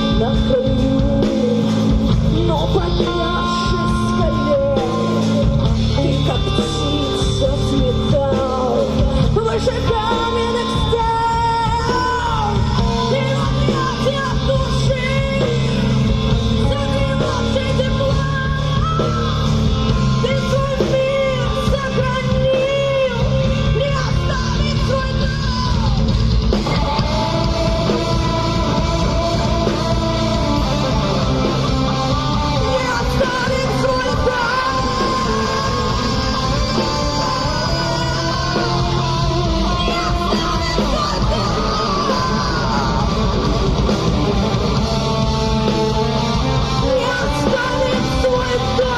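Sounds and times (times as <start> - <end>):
bass guitar: 0.0 - 48.9
drums: 0.0 - 48.9
electric guitars: 0.0 - 48.9
person singing: 0.0 - 48.9.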